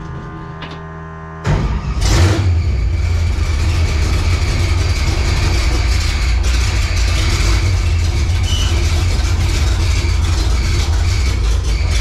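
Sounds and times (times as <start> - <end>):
car engine starting and idling: 1.4 - 12.0.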